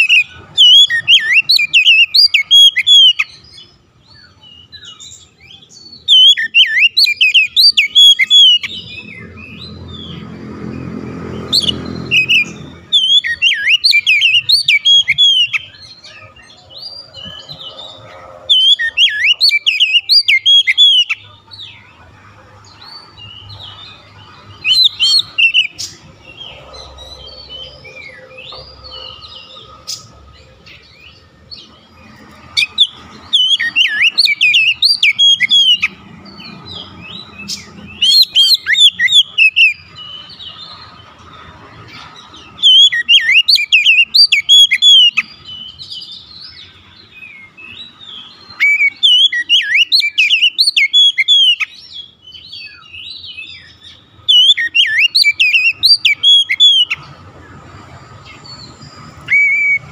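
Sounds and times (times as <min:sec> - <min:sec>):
bird whistling and chirping: 0:00.0 - 0:10.2, 0:11.4 - 0:21.7, 0:22.7 - 0:31.2, 0:32.6 - 0:40.6, 0:42.5 - 0:57.1, 0:58.2 - 0:59.9.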